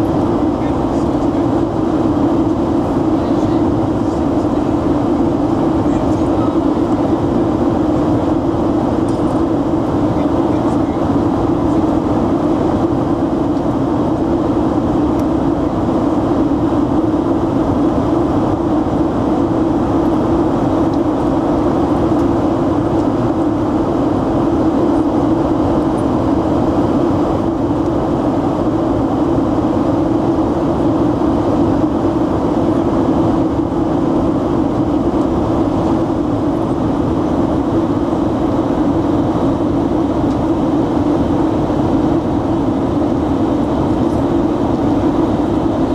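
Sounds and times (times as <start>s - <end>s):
jet airliner cabin noise: 0.0s - 45.9s.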